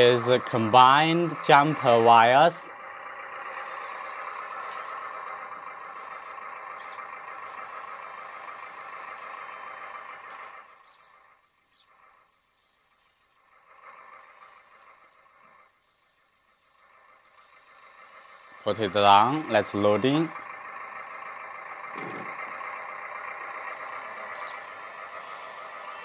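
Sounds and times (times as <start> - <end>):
hydraulic pump whining: 0.0 - 26.0.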